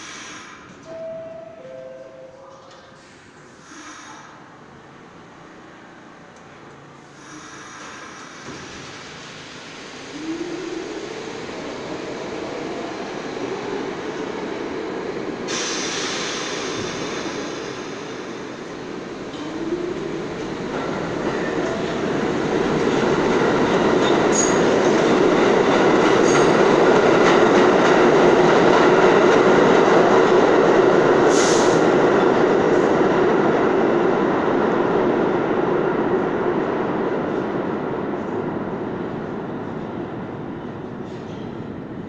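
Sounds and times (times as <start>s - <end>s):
subway train rumble: 0.0s - 42.0s.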